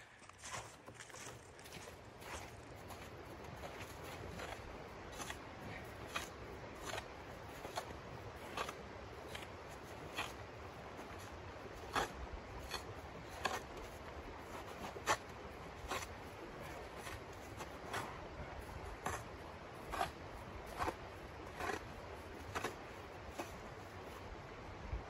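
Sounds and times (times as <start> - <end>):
snow shovel scraping snow: 1.7 - 24.2.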